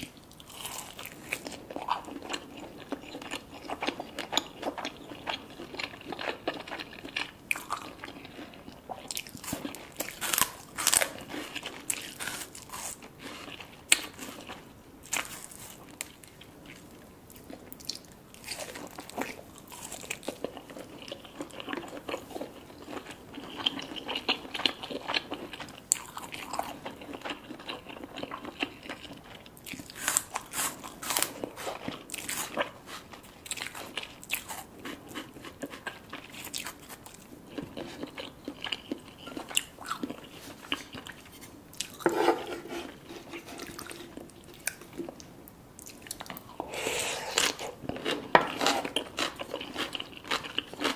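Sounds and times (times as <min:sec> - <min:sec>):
crunching crisp food: 0:00.0 - 0:50.9.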